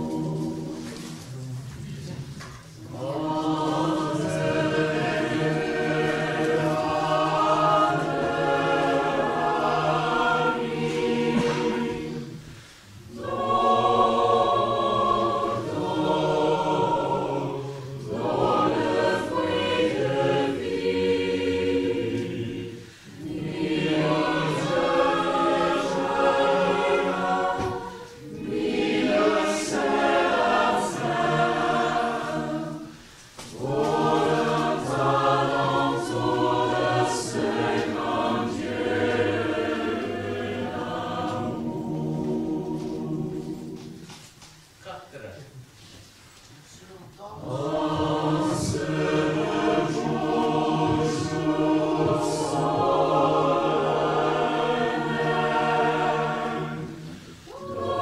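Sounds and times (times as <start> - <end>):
mixed choir singing: 0.0 - 44.4, 47.3 - 58.0.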